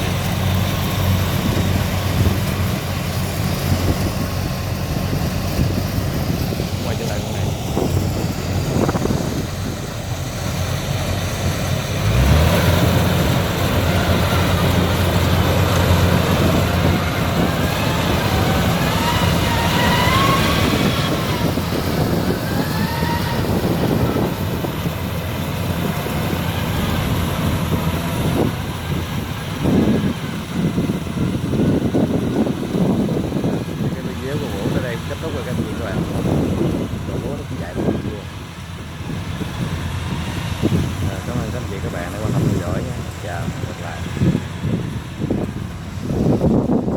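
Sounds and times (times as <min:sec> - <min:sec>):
diesel engine hum: 0:00.0 - 0:46.9.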